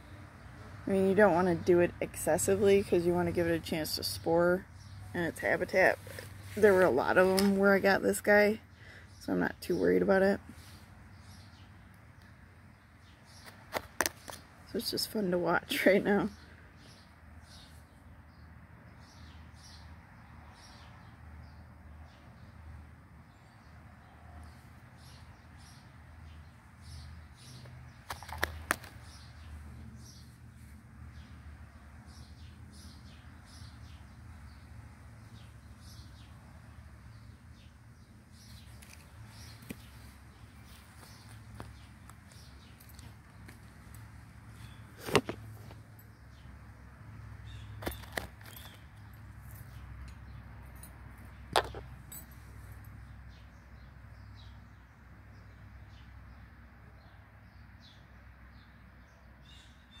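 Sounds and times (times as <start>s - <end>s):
birds chirping: 0.0s - 22.5s, 23.3s - 46.6s, 47.3s - 56.4s.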